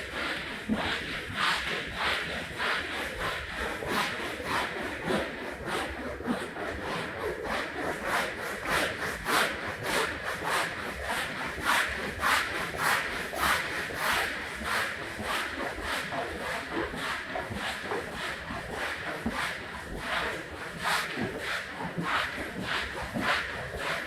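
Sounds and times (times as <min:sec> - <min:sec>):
hand tool rubbing on rug: 0:00.0 - 0:24.0.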